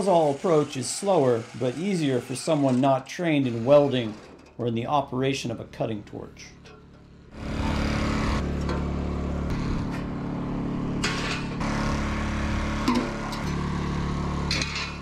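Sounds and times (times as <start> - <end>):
reciprocating saw cutting steel: 0.0 - 4.9, 6.5 - 15.0
generator engine running: 0.0 - 15.0.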